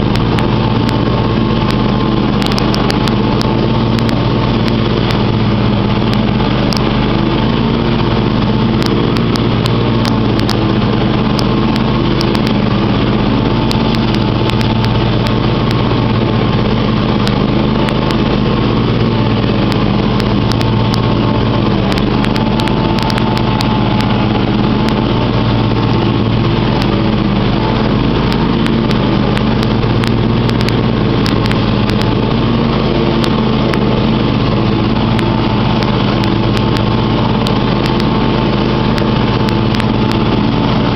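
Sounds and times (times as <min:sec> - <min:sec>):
riding mower engine running: 0:00.0 - 0:40.9.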